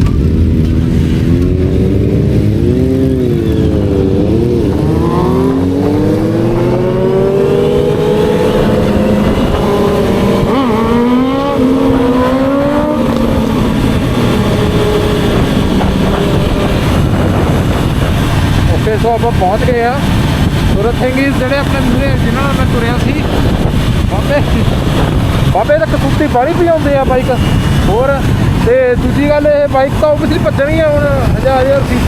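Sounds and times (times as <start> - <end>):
motorcycle engine revving: 0.0 - 32.0
wind noise: 0.0 - 32.0.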